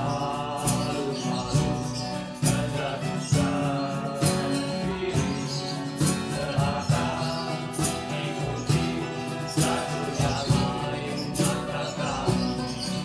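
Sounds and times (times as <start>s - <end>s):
band song with guitar: 0.0s - 13.0s.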